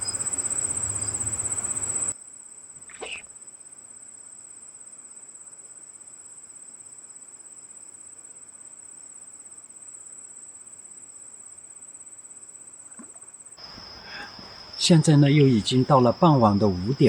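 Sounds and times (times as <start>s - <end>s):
background hiss: 0.0s - 17.0s
insects trilling: 0.0s - 17.0s.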